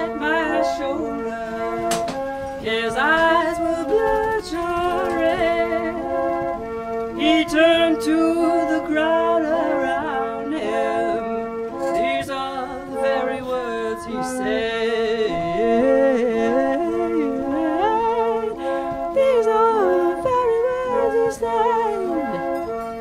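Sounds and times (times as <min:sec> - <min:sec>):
harmonium sustained chords: 0:00.0 - 0:23.0
woman singing wordless melody: 0:00.0 - 0:23.0.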